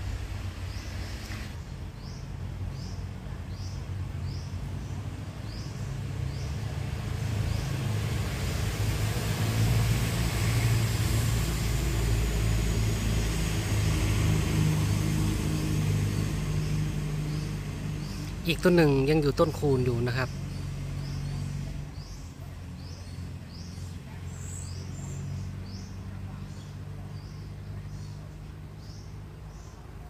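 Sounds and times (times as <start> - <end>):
low engine-like rumble: 0.0 - 30.0.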